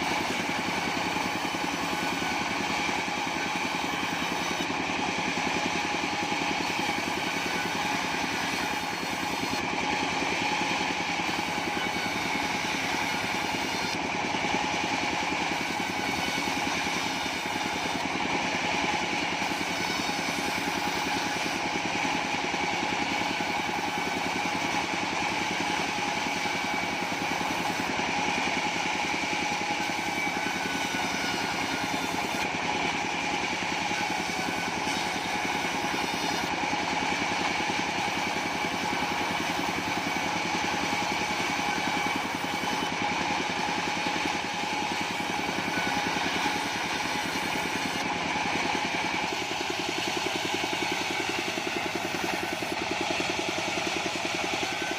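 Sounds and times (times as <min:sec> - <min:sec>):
bandsaw sawmill engine running: 0:00.0 - 0:54.9.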